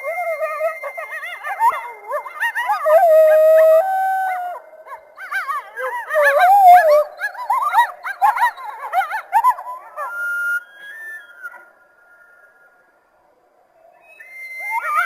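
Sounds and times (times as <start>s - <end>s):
coyotes howling and yipping: 0.0s - 15.0s.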